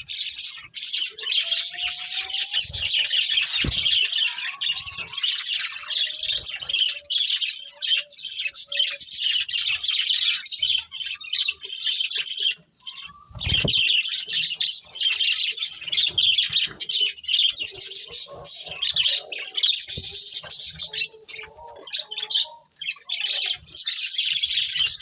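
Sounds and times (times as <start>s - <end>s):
budgerigars chirping and chattering: 0.0s - 25.0s.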